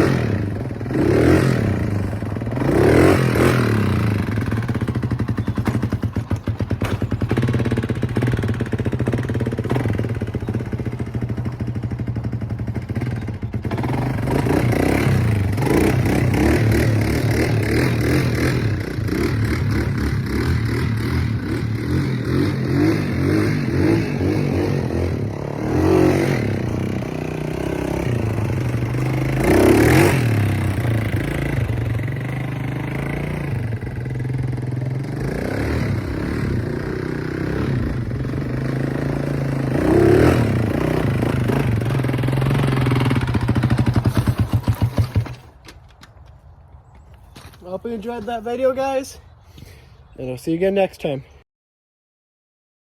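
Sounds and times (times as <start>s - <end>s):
quad bike engine revving: 0.0s - 45.5s.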